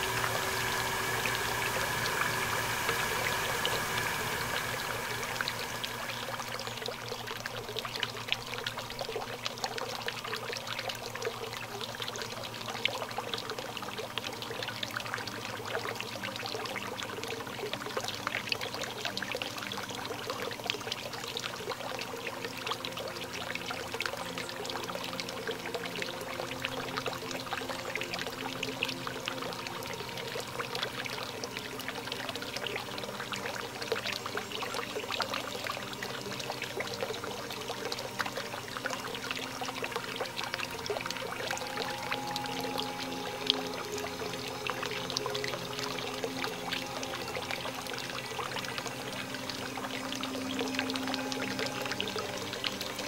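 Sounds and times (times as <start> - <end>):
fountain water splashing: 0.0 - 53.0.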